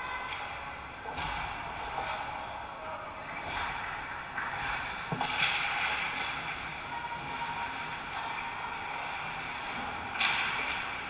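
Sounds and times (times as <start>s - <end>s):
hollow rink ambience: 0.0s - 11.0s.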